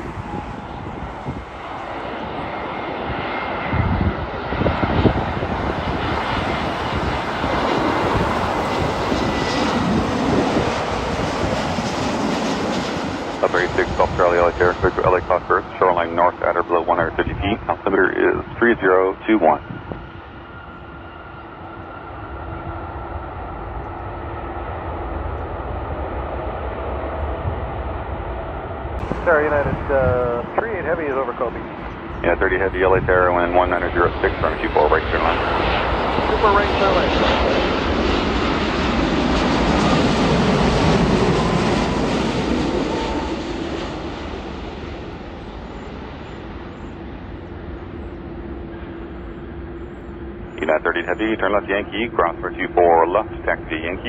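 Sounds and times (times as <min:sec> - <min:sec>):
jet engine whine and rumble: 0:00.0 - 0:54.0.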